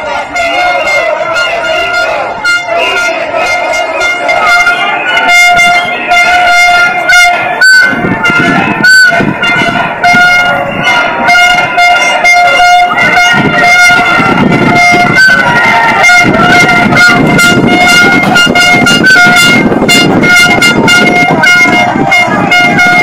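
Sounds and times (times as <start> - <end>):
horn blasts: 0.0 - 23.0
marching crowd noise: 0.0 - 23.0.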